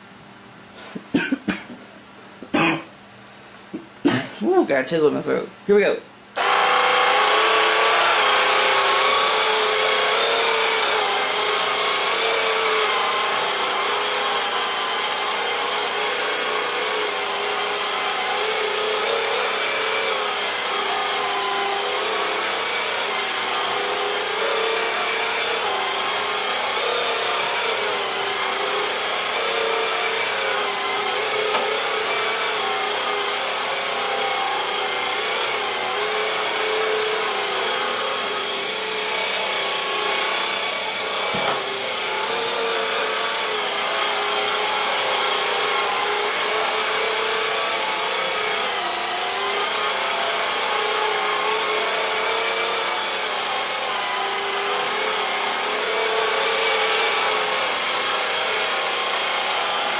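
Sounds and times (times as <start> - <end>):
sweeper motor and brush whirring: 6.4 - 59.9.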